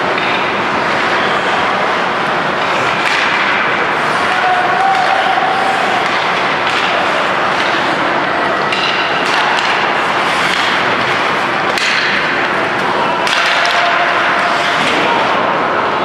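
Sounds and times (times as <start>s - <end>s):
skates on ice: 0.0s - 15.5s
sticks clacking on puck: 0.1s - 15.5s.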